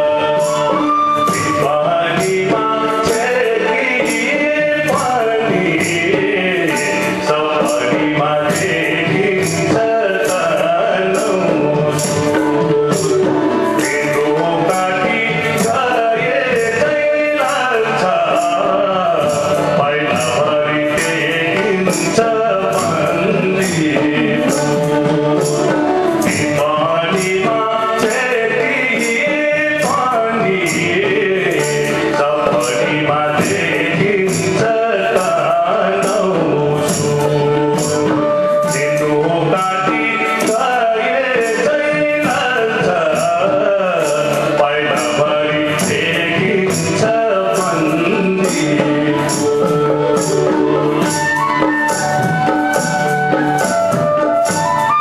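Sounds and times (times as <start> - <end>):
man singing folk song: 0.0 - 51.2
jingling percussion beat: 0.0 - 55.0.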